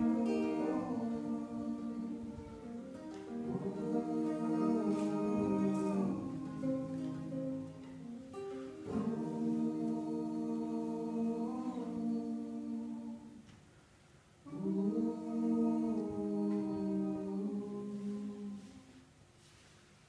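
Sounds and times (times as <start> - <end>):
voices singing in harmony: 0.0 - 13.5, 14.5 - 19.1
quiet guitar: 0.0 - 13.6, 14.4 - 19.0.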